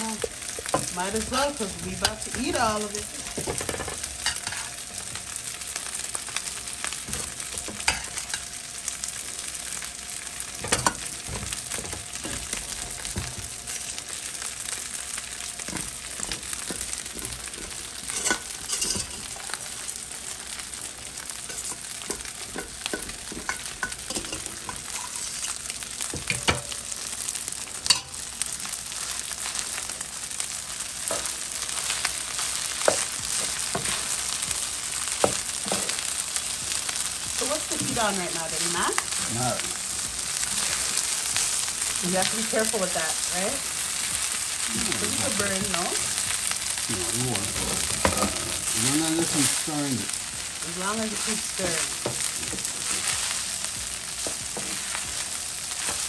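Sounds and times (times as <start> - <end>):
rice sizzling in oil: 0.0 - 56.0.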